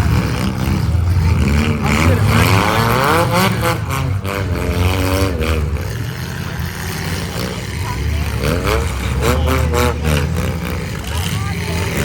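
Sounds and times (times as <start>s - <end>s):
vehicle engines revving: 0.0s - 12.0s.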